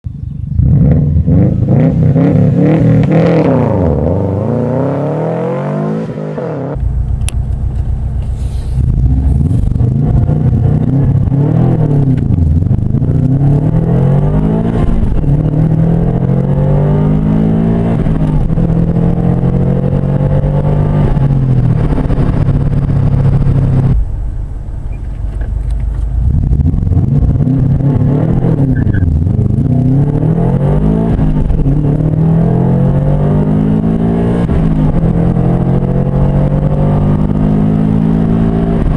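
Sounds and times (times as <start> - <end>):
car engine accelerating hard: 0.5 - 7.4, 8.2 - 24.2, 25.1 - 38.9.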